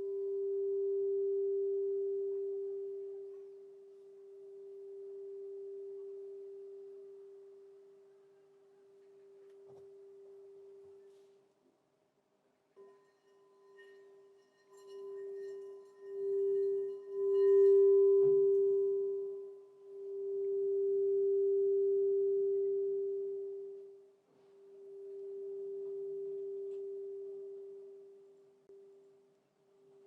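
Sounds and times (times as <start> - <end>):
singing bowl ringing: 0.0 - 8.1, 12.8 - 29.1.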